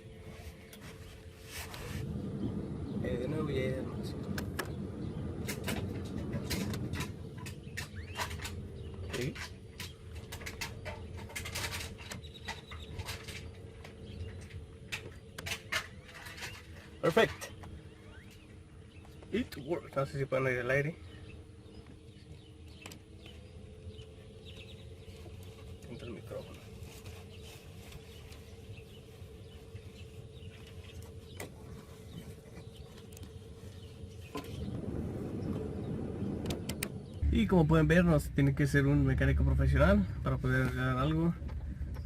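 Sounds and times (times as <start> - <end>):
birds chirping: 0.0 - 42.0
heater blower fan humming: 0.0 - 42.0.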